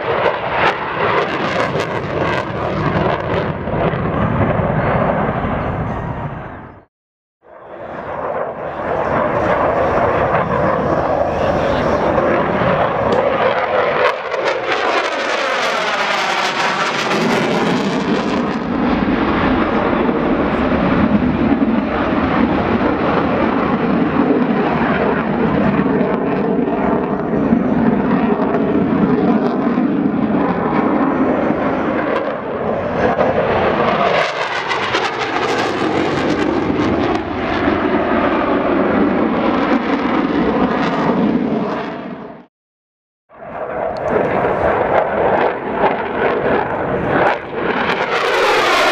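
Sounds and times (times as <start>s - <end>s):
fighter jet afterburner roar: 0.0s - 6.8s, 7.4s - 42.5s, 43.3s - 48.9s.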